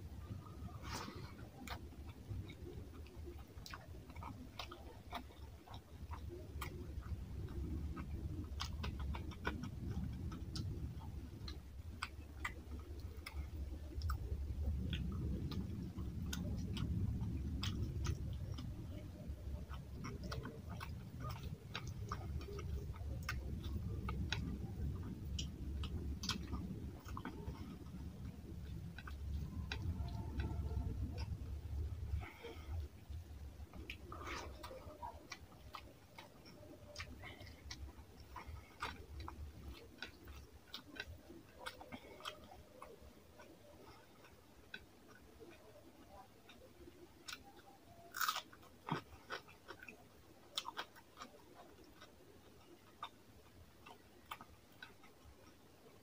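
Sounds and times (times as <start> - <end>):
low chewing noise: 0.0 - 56.0
wet chewing clicks and smacks: 0.2 - 56.0.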